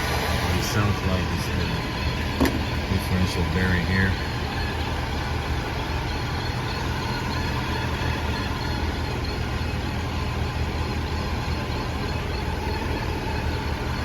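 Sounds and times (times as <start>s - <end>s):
car drivetrain running noise: 0.0s - 14.0s.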